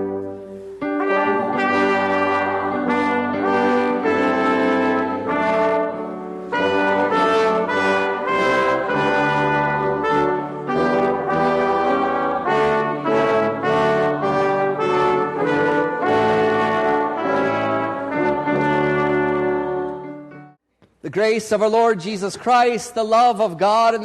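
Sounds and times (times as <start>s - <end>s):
brass ensemble playing chords: 0.0s - 20.6s.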